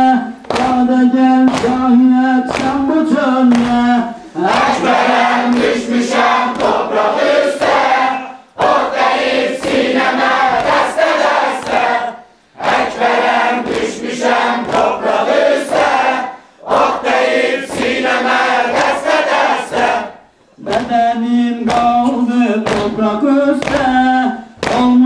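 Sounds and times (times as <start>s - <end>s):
men singing a lament: 0.0s - 25.0s.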